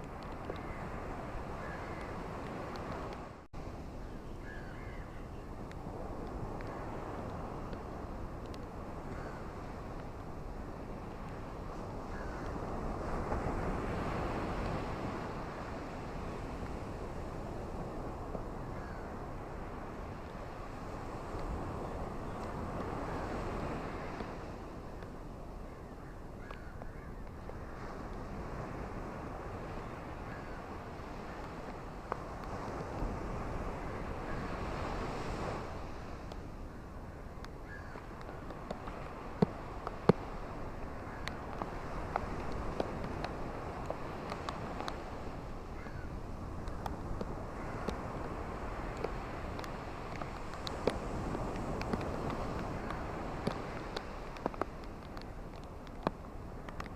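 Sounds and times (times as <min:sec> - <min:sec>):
ocean surf: 0:00.0 - 0:56.9
rain on a beach: 0:00.0 - 0:56.9
wind: 0:00.0 - 0:56.9.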